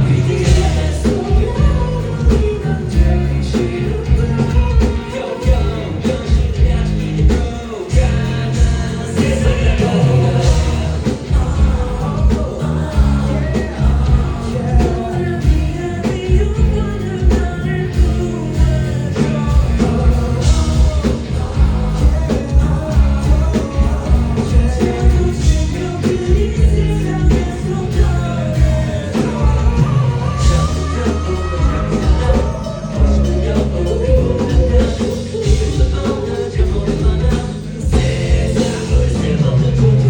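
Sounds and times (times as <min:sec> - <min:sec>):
live rock band: 0:00.0 - 0:40.0
person singing: 0:00.0 - 0:40.0.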